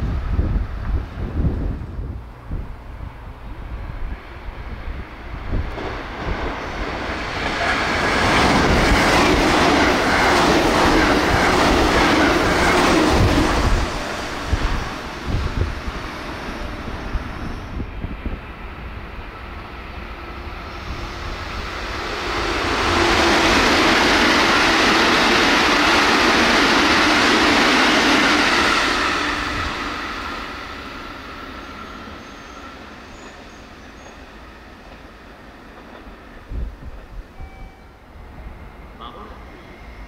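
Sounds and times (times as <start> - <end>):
electric train passing: 0.0 - 40.0.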